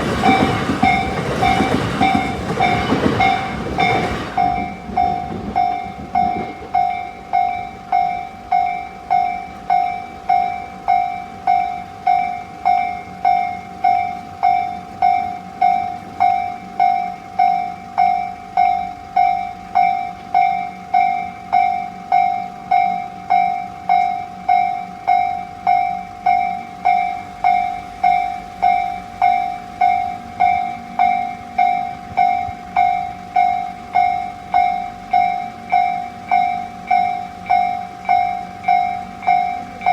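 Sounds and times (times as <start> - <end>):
level crossing warning bell: 0.0 - 39.9
train running: 0.0 - 39.9.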